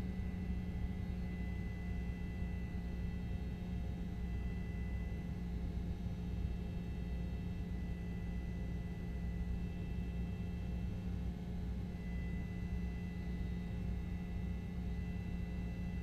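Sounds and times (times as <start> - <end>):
low hum with faint tones: 0.0 - 16.0.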